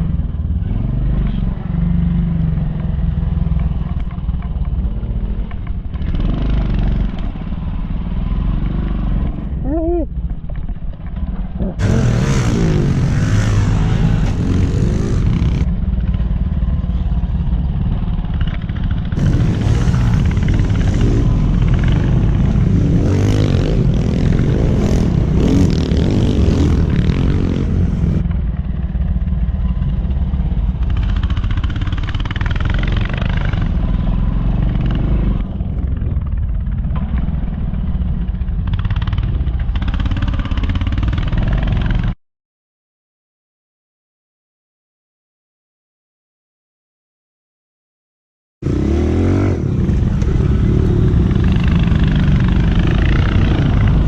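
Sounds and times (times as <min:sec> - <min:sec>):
pit bike engines running: 0:00.0 - 0:42.1, 0:48.6 - 0:54.0.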